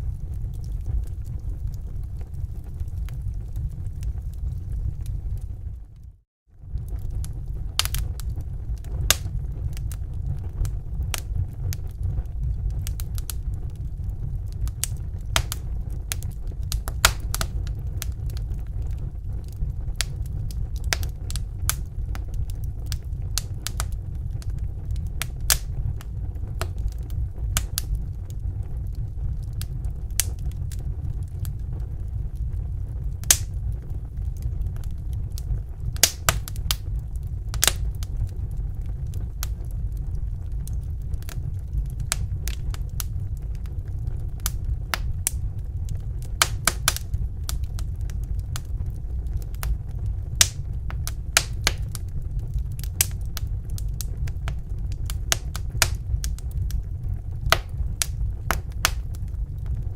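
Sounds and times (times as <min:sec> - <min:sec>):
fire low rumble: 0:00.0 - 0:59.9
wood fire crackling: 0:00.0 - 0:59.9.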